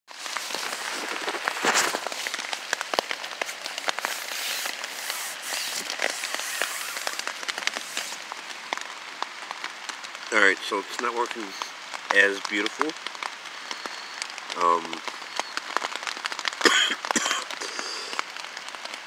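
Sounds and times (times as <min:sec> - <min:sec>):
rain on a tarp: 0:00.1 - 0:19.0.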